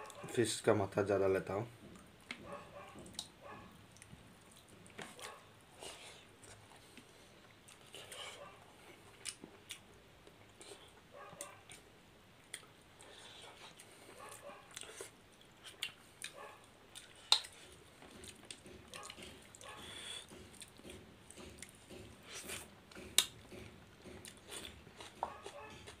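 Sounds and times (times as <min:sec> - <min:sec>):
people chewing: 0:00.0 - 0:00.4, 0:01.8 - 0:26.0.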